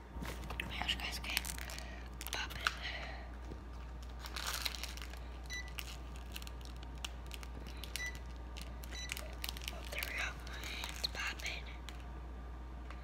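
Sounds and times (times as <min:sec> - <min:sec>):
packaging crinkling: 0:00.2 - 0:12.1.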